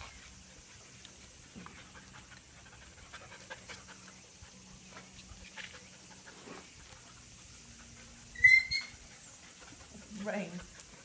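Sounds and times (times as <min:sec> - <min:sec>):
dogs panting: 0:00.2 - 0:11.0.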